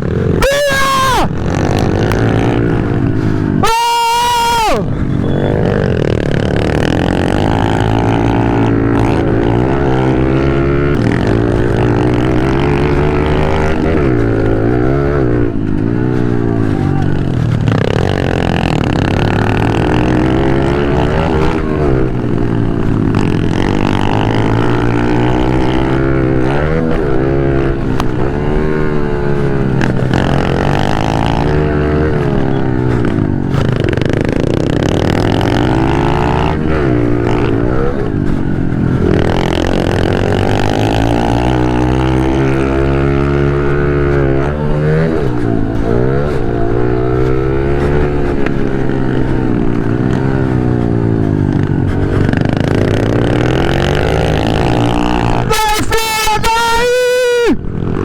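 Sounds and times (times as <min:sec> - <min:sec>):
pit bike engine revving: 0:00.0 - 0:58.0.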